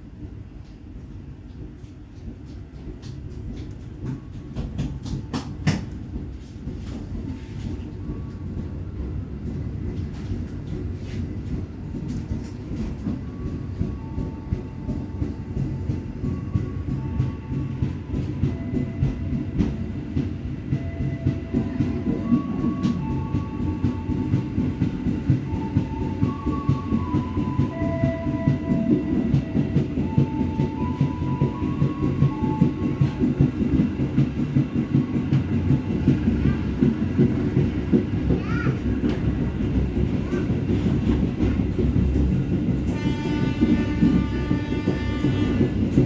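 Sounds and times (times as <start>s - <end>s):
train wheels rumbling: 0.0s - 46.0s.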